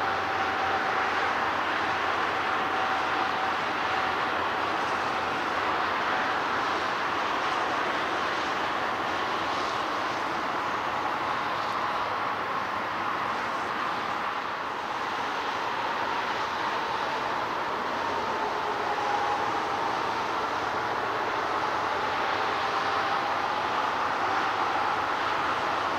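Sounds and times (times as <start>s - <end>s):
jet engines rushing: 0.0s - 25.9s.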